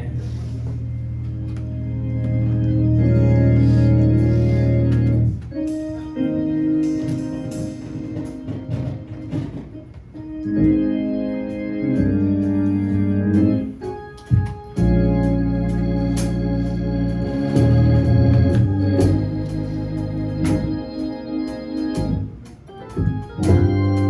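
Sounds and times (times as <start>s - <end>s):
organ playing held chords: 0.0s - 24.0s.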